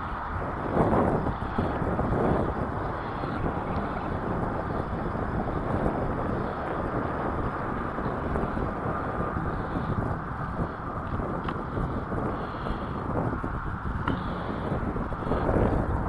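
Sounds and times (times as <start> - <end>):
uneven low rumble: 0.0 - 16.0
wind noise on microphone: 0.0 - 16.0.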